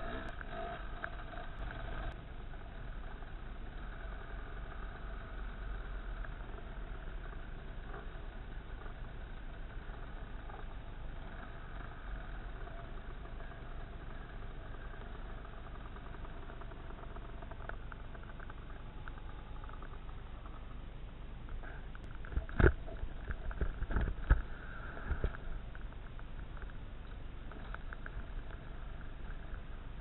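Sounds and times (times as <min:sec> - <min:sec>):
dirt bike engine at low speed: 0:00.0 - 0:30.0.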